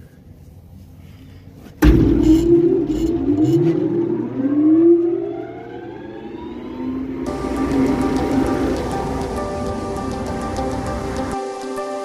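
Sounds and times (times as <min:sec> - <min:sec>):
fan motor whine rising in pitch: 0:01.8 - 0:11.9.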